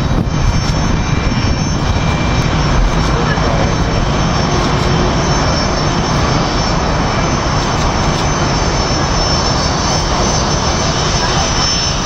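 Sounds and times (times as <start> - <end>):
jet engines with high whine: 0.0 - 12.0.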